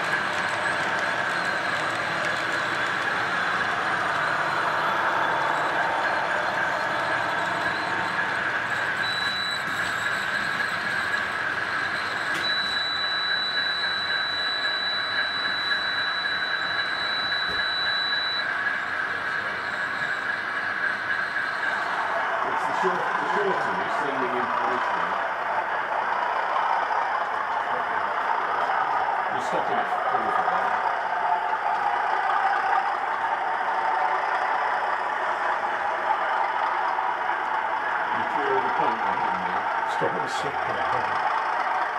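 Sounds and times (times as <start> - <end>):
high steady whine: 0.0 - 41.9
model train running: 0.0 - 41.9.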